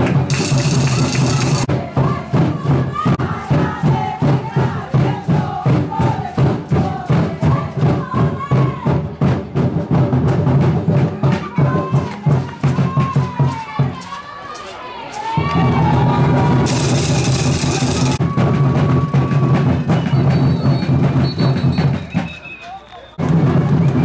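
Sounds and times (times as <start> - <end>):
drums pounding fast beat: 0.0 - 14.4, 15.2 - 24.0
crowd chanting and shouting: 0.0 - 24.0.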